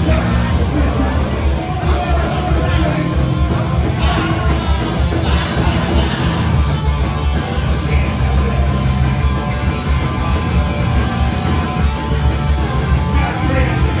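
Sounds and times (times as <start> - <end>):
bass guitar: 0.0 - 14.0
distorted electric guitar: 0.0 - 14.0
drums: 0.0 - 14.0.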